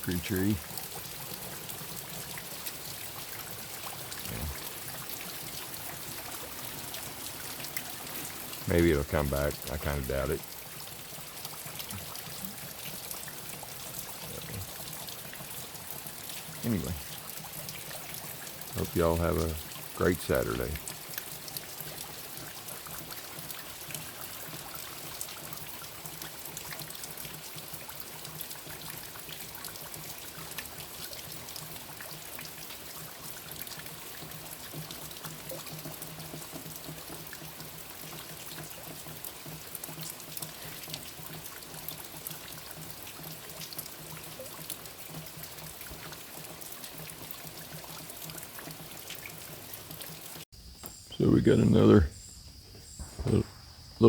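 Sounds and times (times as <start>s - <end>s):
rain dripping and trickling: 0.0s - 50.5s.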